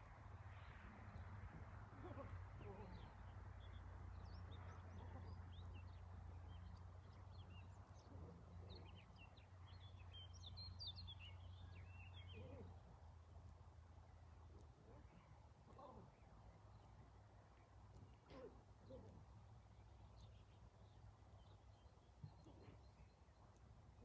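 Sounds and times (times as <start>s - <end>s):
small birds chirping: 1.9s - 24.0s.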